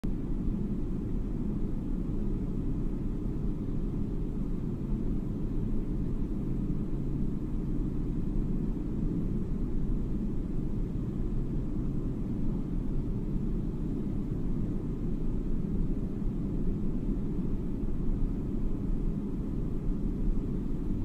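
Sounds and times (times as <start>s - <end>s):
jet cabin low rumble: 0.0s - 21.0s.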